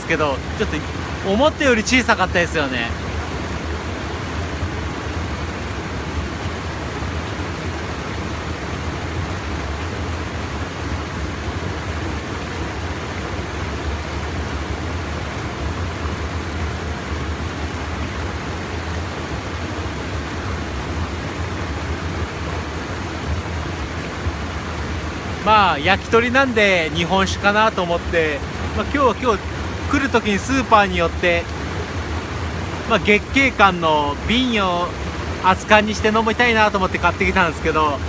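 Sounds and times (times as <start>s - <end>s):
river water rushing over dam: 0.0s - 38.0s.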